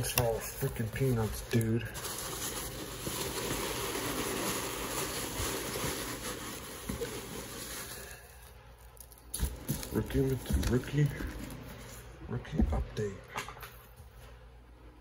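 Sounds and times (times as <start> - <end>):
foam packing peanuts rustling: 0.0 - 12.2.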